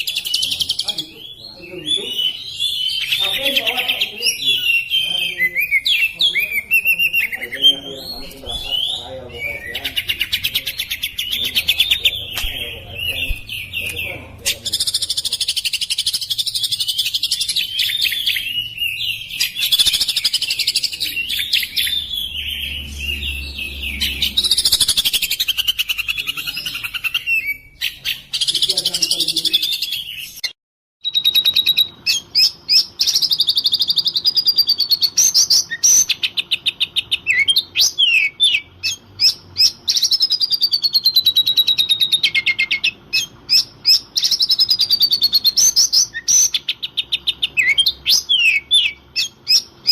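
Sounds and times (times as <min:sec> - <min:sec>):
bird singing whistles and chatter: 0:00.0 - 0:49.9.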